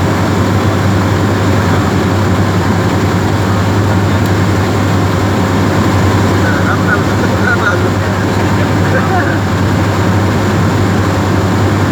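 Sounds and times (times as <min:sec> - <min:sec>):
airplane engine and propeller droning: 0:00.0 - 0:11.9.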